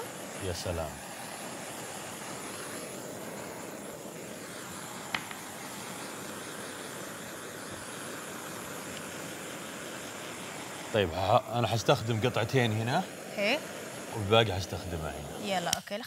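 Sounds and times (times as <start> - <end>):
blowtorch hissing: 0.0 - 16.0.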